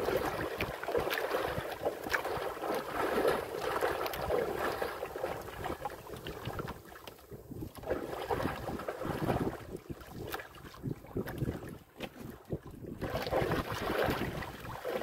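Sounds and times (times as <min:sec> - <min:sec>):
water splashing against boat: 0:00.0 - 0:15.0.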